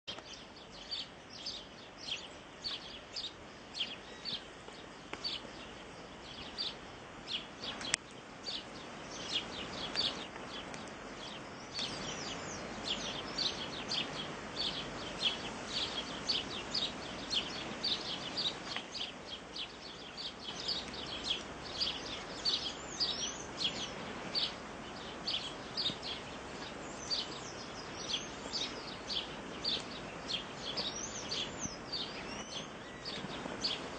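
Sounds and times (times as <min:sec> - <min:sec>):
bird chirping: 0:00.1 - 0:33.9
steady background hiss: 0:00.1 - 0:33.9.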